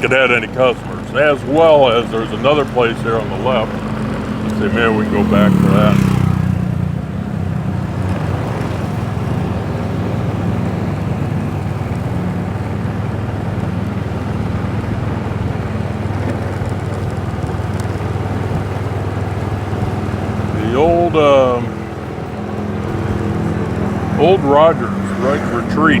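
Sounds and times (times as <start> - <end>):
motorbike engine droning: 0.0 - 26.0
road noise: 0.0 - 26.0.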